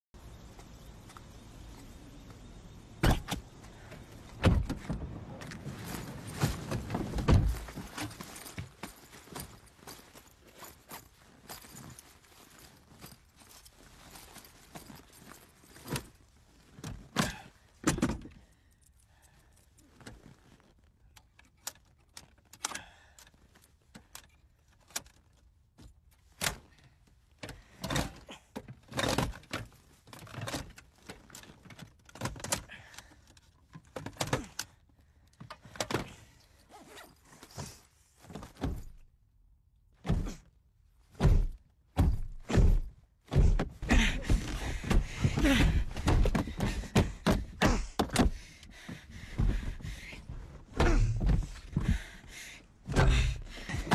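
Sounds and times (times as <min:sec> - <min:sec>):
handling thunks clicks and rustles: 0:00.5 - 0:53.9.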